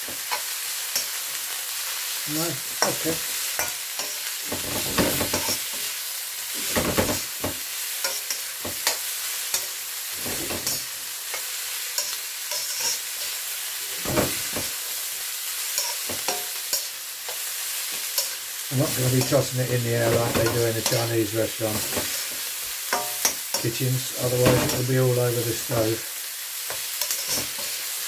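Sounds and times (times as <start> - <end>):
vegetables sizzling in oil: 0.0 - 28.0
metal utensil scraping a wok: 2.8 - 15.0, 15.6 - 25.8, 26.7 - 28.0.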